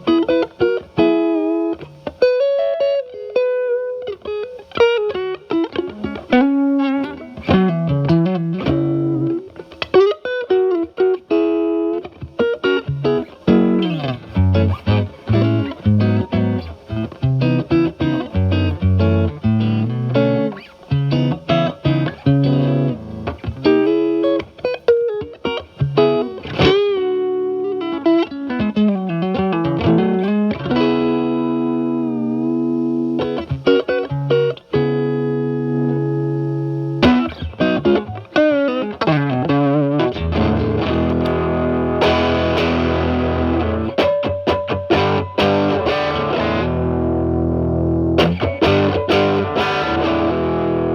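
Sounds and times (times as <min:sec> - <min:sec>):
electric guitar blues licks: 0:00.0 - 0:50.9.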